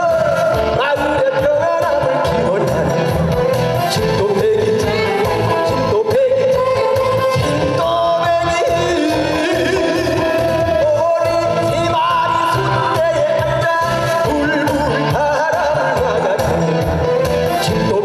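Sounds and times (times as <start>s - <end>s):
man singing into microphone: 0.0s - 18.0s
music with steady beat: 0.0s - 18.0s.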